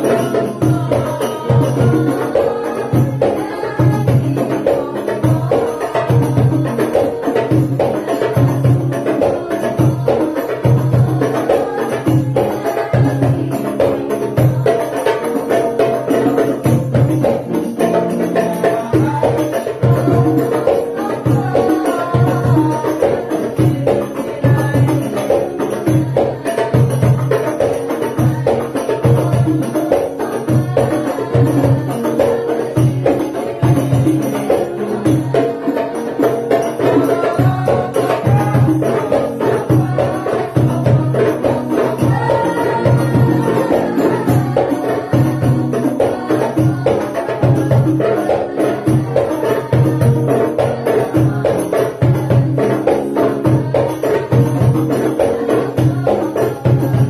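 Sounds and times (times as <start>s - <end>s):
frame drums and darbuka beat: 0.0s - 57.0s
group singing devotional song: 0.0s - 57.0s.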